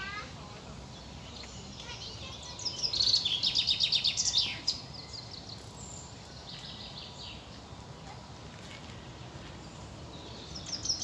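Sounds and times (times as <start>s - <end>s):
outdoor background noise: 0.0s - 11.0s
songbird chirping: 0.0s - 11.0s.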